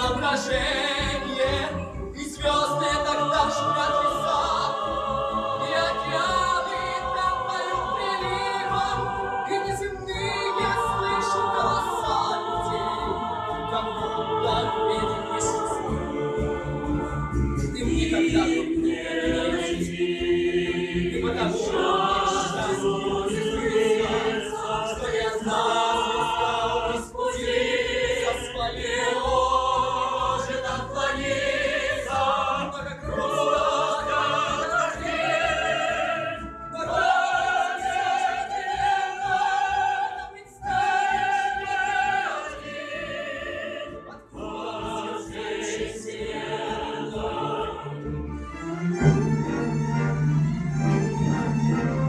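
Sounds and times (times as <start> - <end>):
choir singing: 0.0 - 52.0.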